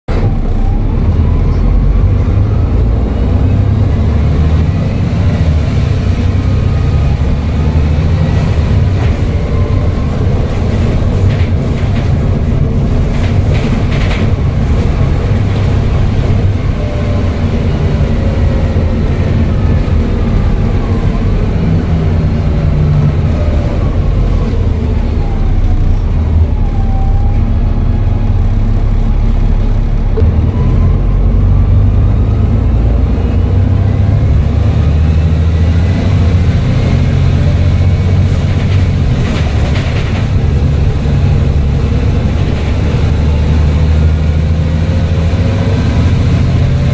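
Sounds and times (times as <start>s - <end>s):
bus diesel engine running: 0.1s - 46.9s.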